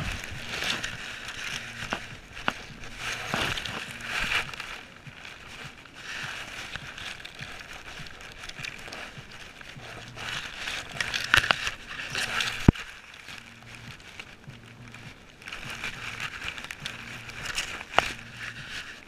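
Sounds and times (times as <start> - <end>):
grass and fur brushing camera: 0.0 - 19.0.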